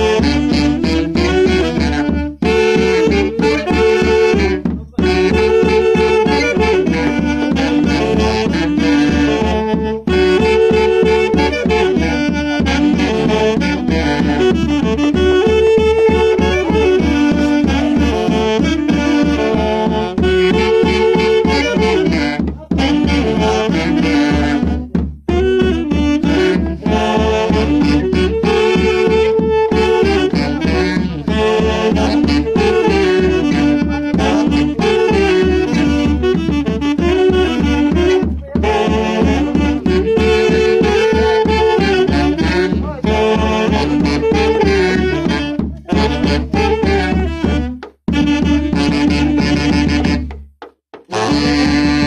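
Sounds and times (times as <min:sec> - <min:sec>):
bass drum beat: 0:00.0 - 0:52.0
saxophones playing melody: 0:00.0 - 0:52.0.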